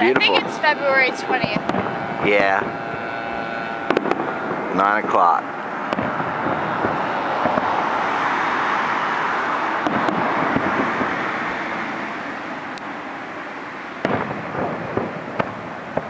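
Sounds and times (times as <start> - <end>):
fireworks bangs: 0.0 - 12.2, 14.0 - 16.0
fireworks crackling: 0.0 - 16.0.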